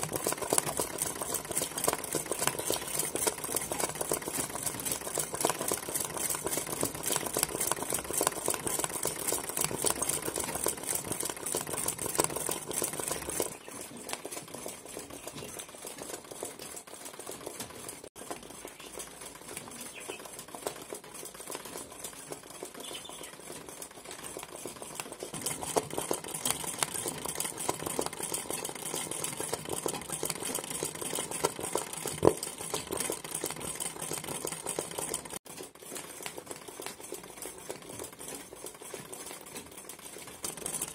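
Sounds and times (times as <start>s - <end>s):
sewing machine stitching fast: 0.0s - 40.9s.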